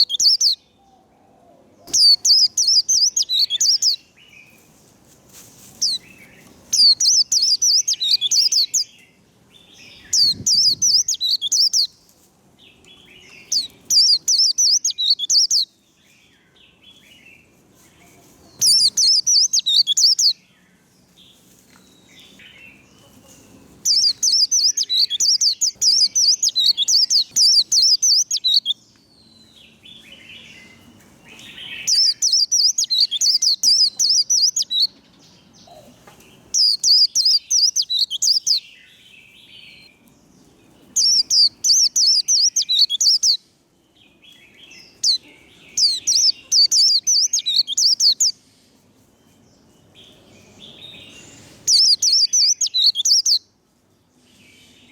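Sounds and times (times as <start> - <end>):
bird warbling song: 0.0 - 4.5, 5.8 - 12.0, 12.8 - 17.2, 18.0 - 40.0, 40.8 - 43.4, 44.0 - 48.5, 49.3 - 53.5.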